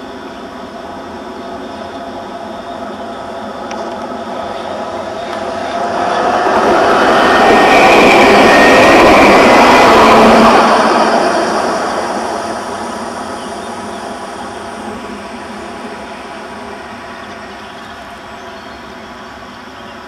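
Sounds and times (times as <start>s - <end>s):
tram passing on rails: 0.0s - 20.0s.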